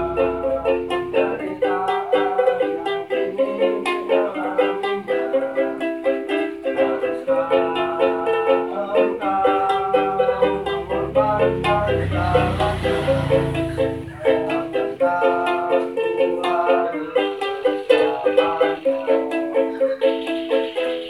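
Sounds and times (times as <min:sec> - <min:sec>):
small string instrument strummed: 0:00.0 - 0:21.0.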